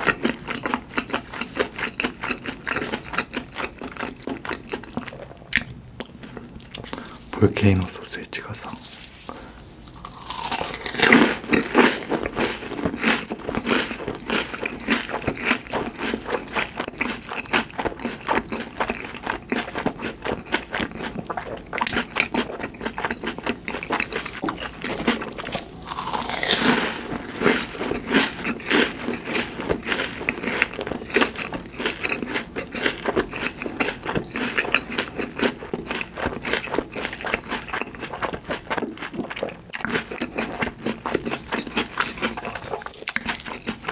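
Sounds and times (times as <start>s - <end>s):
crunching and chewing crispy food: 0.0s - 43.9s.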